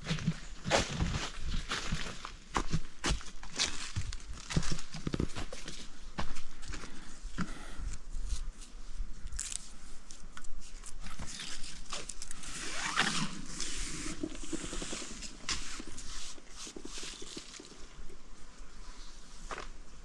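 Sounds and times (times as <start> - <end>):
camping gear rustling and clicking: 0.0 - 20.0.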